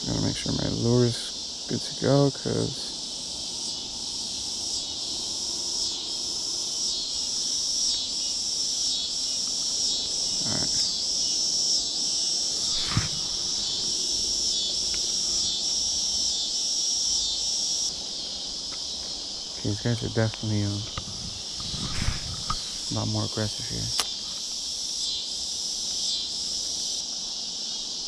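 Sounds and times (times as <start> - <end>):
insects calling: 0.0 - 28.0.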